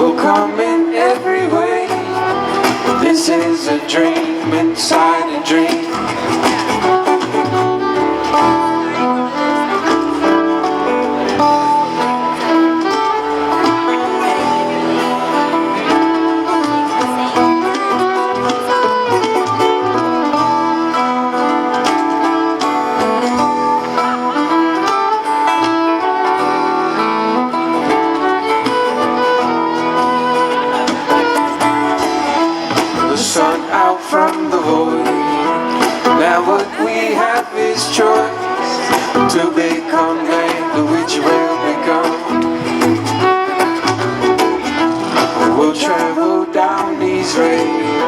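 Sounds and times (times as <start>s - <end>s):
acoustic string band playing: 0.0s - 48.0s.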